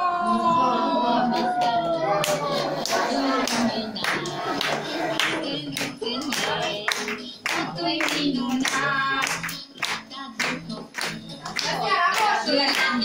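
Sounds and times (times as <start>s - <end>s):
children singing: 0.0s - 13.0s
hand clapping: 1.4s - 13.0s.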